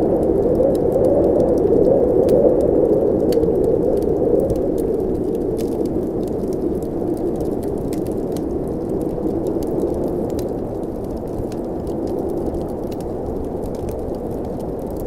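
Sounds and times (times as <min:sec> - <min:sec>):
blizzard wind blowing: 0:00.0 - 0:15.0
wood fire crackling: 0:00.0 - 0:15.0.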